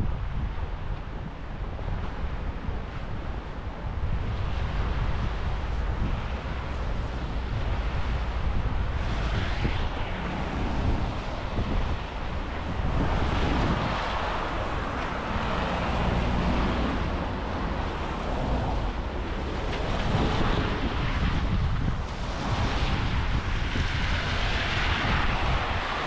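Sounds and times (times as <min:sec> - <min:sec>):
road traffic: 0:00.0 - 0:26.0
wind buffeting microphone: 0:00.0 - 0:26.0.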